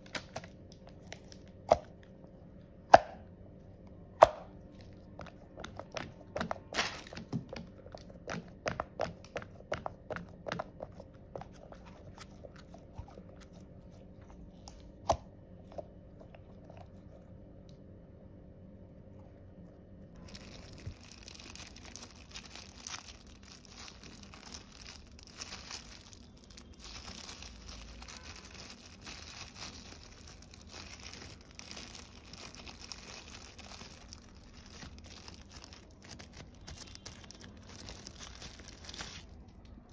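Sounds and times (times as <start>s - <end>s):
plastic glove and paper crinkling: 0.0s - 2.3s, 4.6s - 15.0s, 20.1s - 39.9s.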